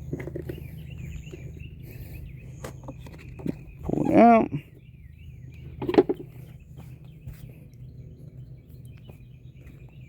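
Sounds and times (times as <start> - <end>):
birds chirping: 0.0 - 10.0
steady low hum: 0.0 - 10.0.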